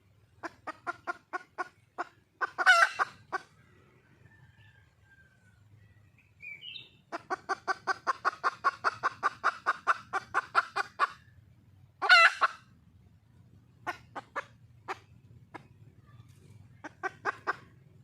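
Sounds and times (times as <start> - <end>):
hen clucking: 0.2 - 4.0, 6.6 - 18.0.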